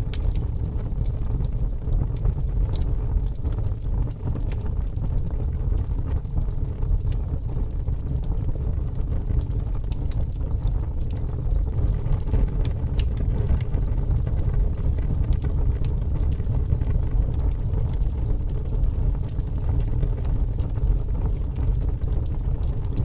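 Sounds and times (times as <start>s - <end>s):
fire crackling and popping: 0.0s - 23.0s
fire rumbling: 0.0s - 23.0s.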